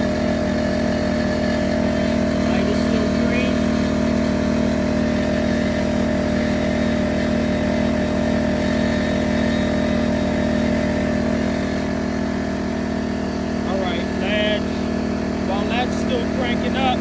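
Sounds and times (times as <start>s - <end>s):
air compressor running: 0.0s - 17.0s
portable generator running: 0.0s - 17.0s.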